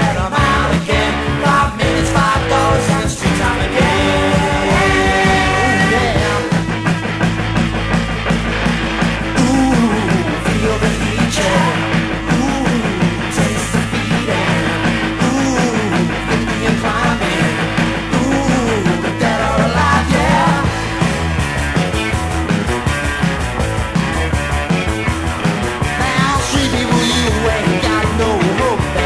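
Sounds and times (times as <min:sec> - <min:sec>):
punk rock band playing: 0:00.0 - 0:29.0.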